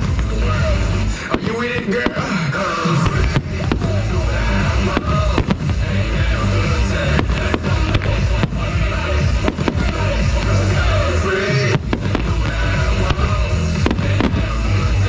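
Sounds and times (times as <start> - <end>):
fireworks bursting: 0.0 - 15.0
loud music with heavy bass: 0.0 - 15.0.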